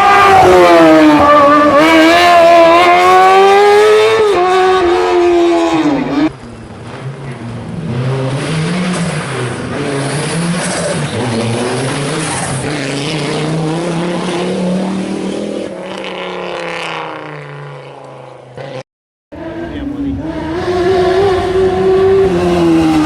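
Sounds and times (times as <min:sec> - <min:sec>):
rally car engine revving: 0:00.0 - 0:18.8, 0:19.4 - 0:23.0.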